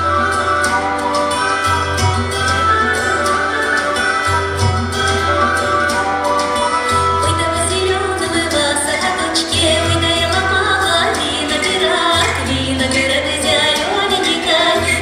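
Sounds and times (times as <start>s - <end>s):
melody lines: 0.0s - 15.0s.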